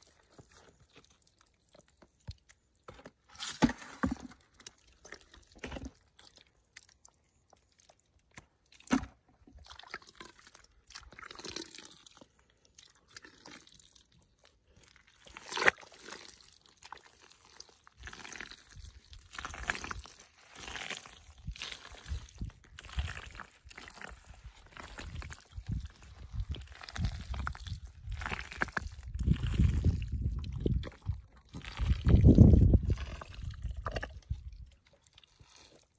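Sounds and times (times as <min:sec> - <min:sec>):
hand squelching wet mud: 0:00.0 - 0:09.0, 0:09.6 - 0:35.9.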